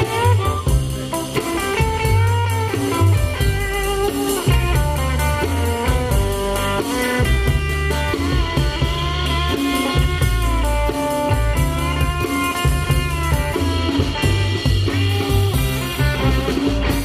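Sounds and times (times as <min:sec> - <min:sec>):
blues band playing: 0:00.0 - 0:17.0
lead guitar bending notes: 0:00.0 - 0:17.0
steady drum beat: 0:00.0 - 0:17.0.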